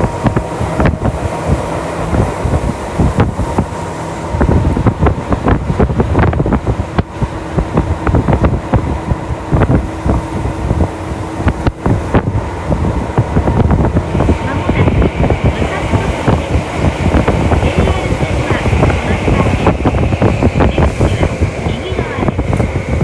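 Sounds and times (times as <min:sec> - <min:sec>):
steady hum: 0:00.0 - 0:23.0
train wheels rumbling on rails: 0:00.0 - 0:23.0.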